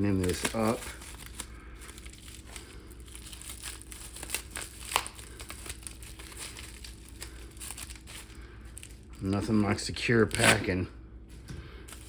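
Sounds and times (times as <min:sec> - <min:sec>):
packing material crinkling: 0:00.0 - 0:10.7, 0:11.8 - 0:12.0.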